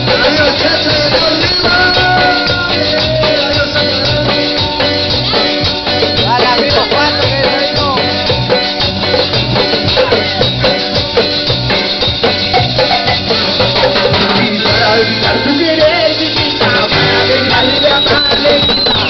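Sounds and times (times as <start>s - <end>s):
latin band music: 0.0s - 19.0s
maracas and drums: 0.0s - 19.0s.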